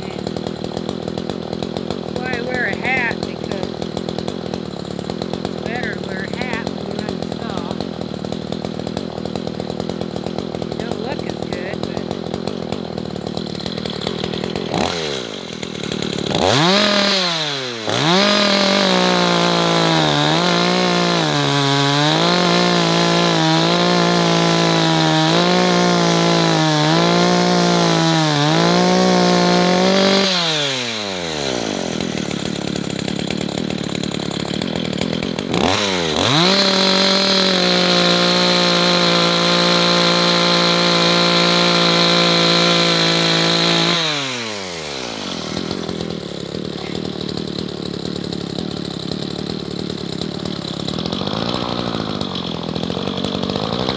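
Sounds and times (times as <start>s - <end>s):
chainsaw cutting through log: 0.0s - 53.9s.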